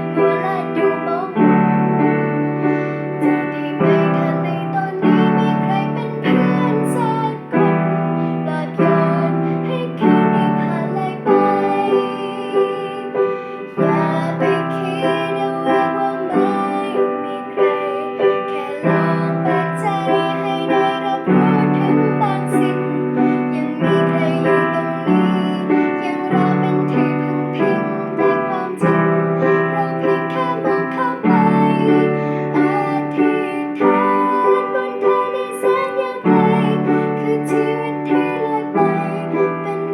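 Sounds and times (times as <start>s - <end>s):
piano chords: 0.0s - 39.9s
young woman singing: 0.0s - 39.9s.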